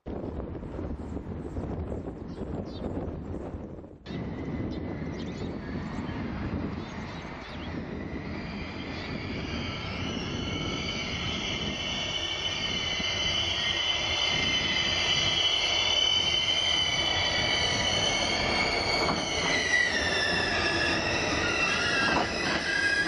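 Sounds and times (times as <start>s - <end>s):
diesel locomotive running: 4.1s - 23.0s
high multi-tone whine: 4.1s - 23.0s.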